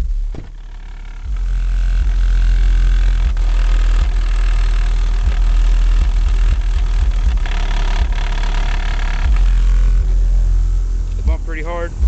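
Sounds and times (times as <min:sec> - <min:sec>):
bass-heavy rap music: 0:00.0 - 0:12.0.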